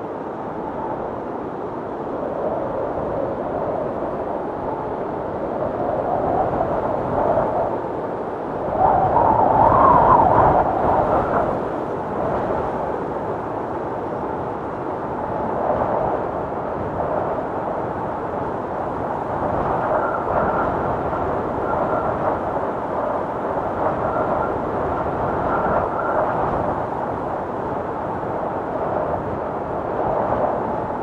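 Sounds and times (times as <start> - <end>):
high wind whistle: 0.0 - 31.0
wind storm blowing: 0.0 - 31.0.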